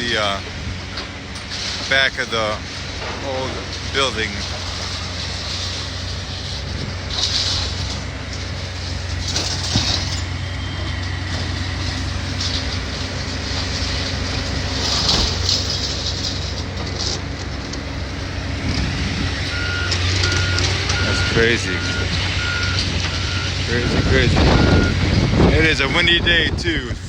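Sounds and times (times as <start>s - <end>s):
debris crunching and clattering: 0.0s - 26.3s
diesel engine of demolition machine: 0.0s - 27.0s.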